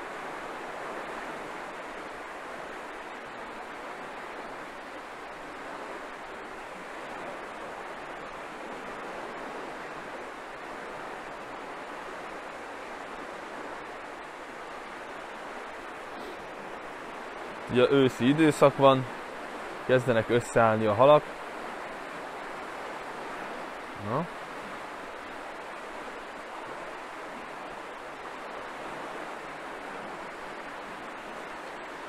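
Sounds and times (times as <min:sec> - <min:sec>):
water rushing and swirling: 0:00.0 - 0:32.0.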